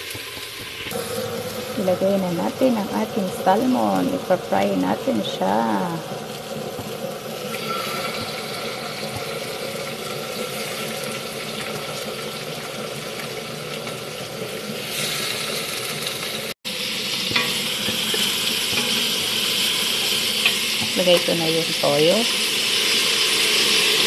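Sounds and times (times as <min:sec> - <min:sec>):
fish sizzling in a pan: 0:00.0 - 0:24.0
vegetables sizzling in a pot: 0:00.0 - 0:24.0.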